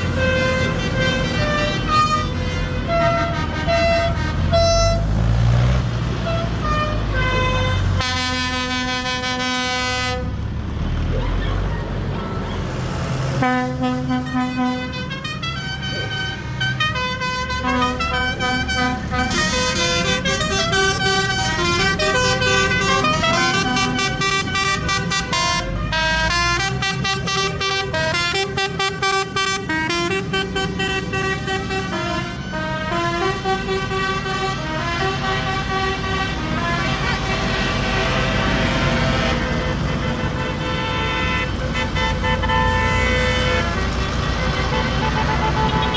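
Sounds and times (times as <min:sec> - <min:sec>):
horn-like tune in held notes: 0:00.0 - 0:05.1, 0:06.2 - 0:10.3, 0:13.4 - 0:45.9
vehicle engines running: 0:00.0 - 0:45.9.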